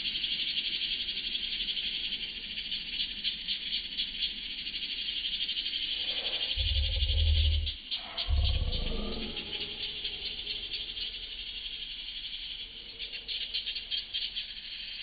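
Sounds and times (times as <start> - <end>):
high-pitched chorus of wildlife: 0.0 - 15.0.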